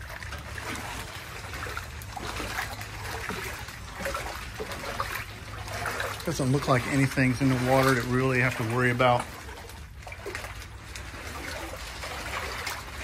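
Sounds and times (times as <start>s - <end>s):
low steady hum: 0.0s - 13.0s
water sloshing and trickling: 0.0s - 13.0s.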